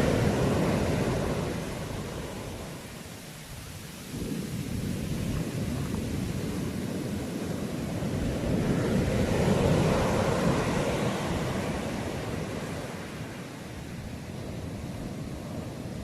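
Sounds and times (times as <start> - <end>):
sea waves breaking: 0.0 - 16.0.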